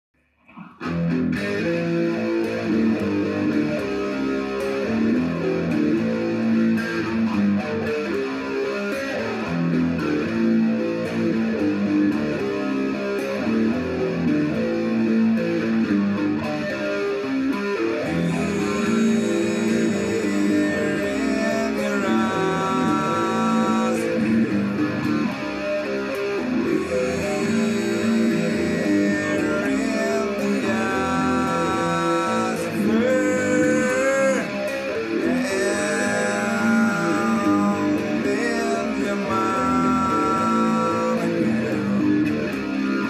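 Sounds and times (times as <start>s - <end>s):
guitar playing slow chords: 0.5s - 43.0s.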